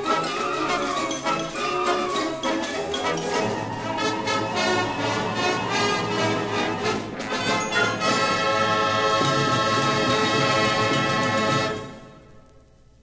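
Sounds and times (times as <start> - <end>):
concert band playing: 0.0 - 12.1
percussion strikes: 0.0 - 12.3
brass chords: 0.0 - 12.4.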